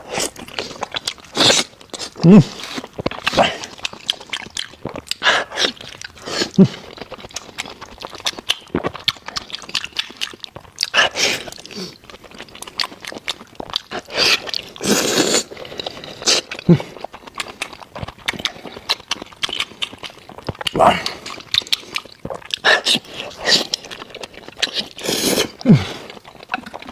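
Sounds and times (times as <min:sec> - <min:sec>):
chewing and biting meat: 0:00.0 - 0:26.9.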